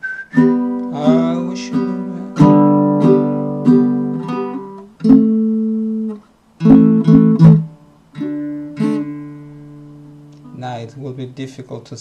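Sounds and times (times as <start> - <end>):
ukulele strumming chords: 0.0 - 10.8.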